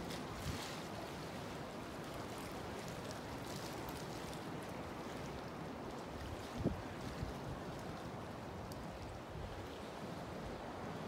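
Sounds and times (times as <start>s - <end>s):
sea water lapping on pilings: 0.0s - 11.0s.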